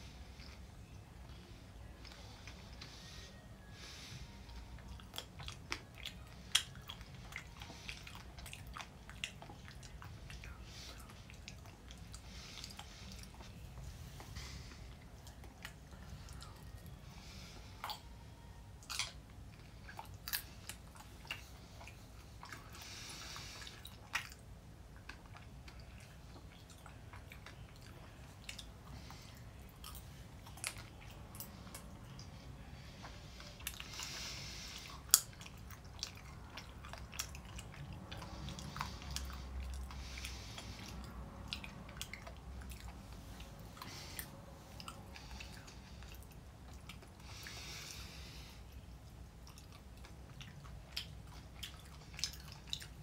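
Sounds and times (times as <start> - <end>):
close-up chewing: 0.0 - 53.0.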